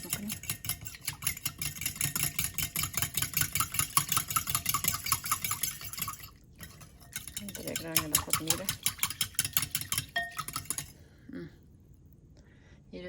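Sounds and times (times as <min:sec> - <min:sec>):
spatula scraping in a pan: 0:00.0 - 0:11.0.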